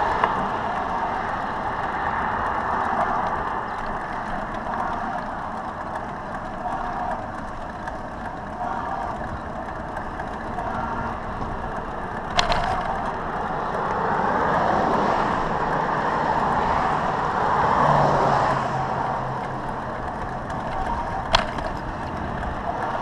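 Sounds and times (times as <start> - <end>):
motor vehicle passing: 0.0 - 23.0
road noise: 0.0 - 23.0.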